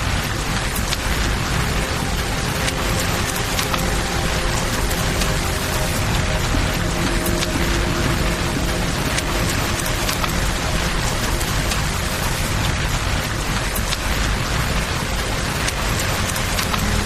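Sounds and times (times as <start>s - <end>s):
river flowing: 0.0s - 17.0s
steady rain falling: 0.0s - 17.0s.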